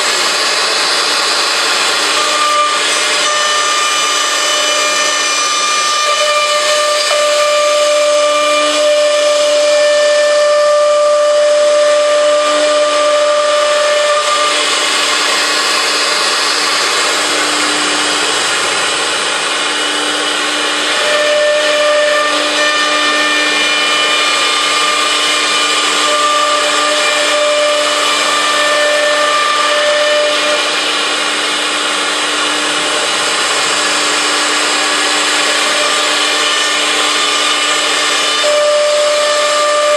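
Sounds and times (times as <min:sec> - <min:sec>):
higher whine tone: 0:00.0 - 0:39.9
router spindle whine: 0:00.0 - 0:39.9
rushing cutting noise: 0:00.0 - 0:39.9.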